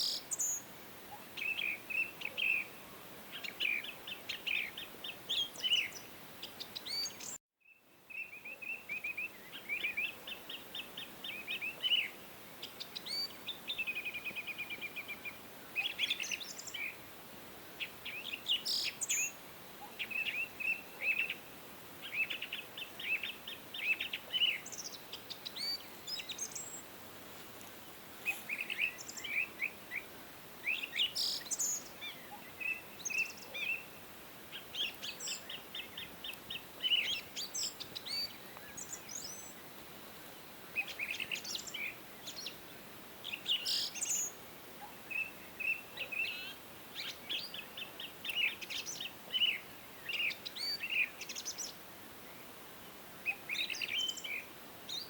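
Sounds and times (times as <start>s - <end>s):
songbirds singing: 0.0s - 17.2s, 17.8s - 26.9s, 27.8s - 55.0s
faint steady hiss: 0.0s - 55.0s.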